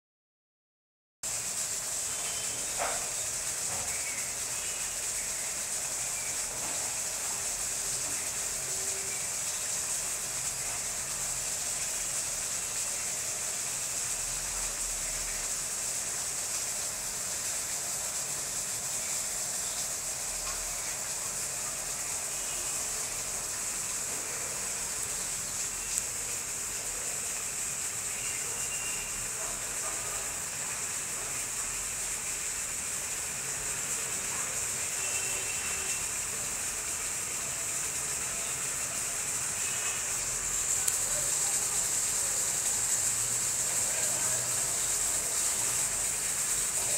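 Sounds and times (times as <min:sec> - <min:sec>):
high-pitched hiss: 0:01.2 - 0:46.9.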